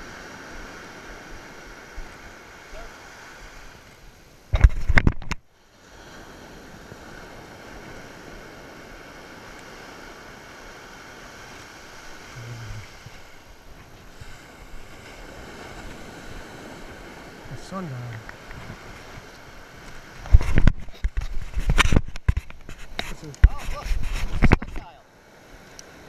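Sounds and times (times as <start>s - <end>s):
surf washing on beach: 0.0s - 26.0s
wind: 0.0s - 26.0s.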